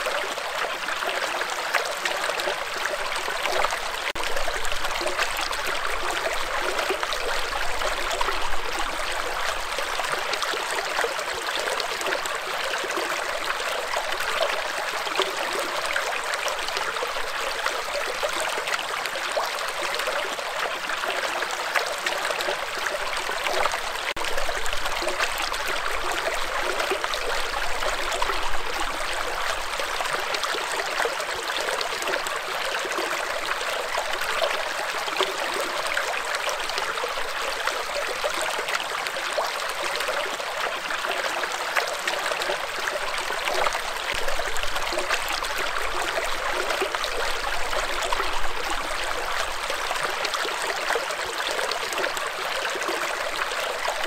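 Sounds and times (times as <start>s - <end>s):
stream water over rocks: 0.0s - 54.0s.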